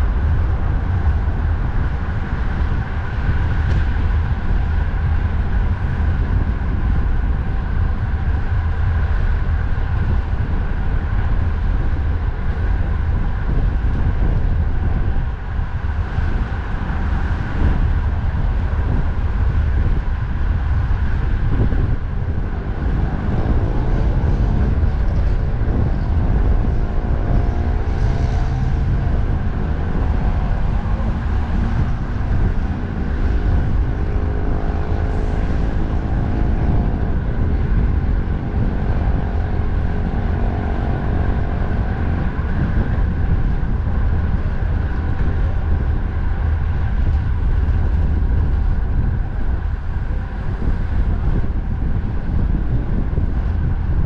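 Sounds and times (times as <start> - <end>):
highway traffic passing: 0.0 - 54.0
wind buffeting microphone: 0.0 - 54.0.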